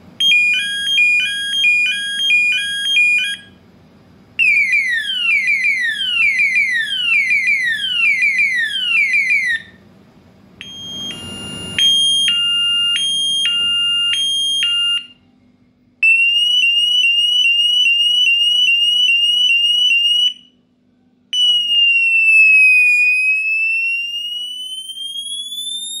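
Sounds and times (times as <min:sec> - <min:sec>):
electronic siren alarm tones: 0:00.2 - 0:03.5, 0:04.4 - 0:09.8, 0:10.6 - 0:15.2, 0:16.0 - 0:20.5, 0:21.4 - 0:26.0.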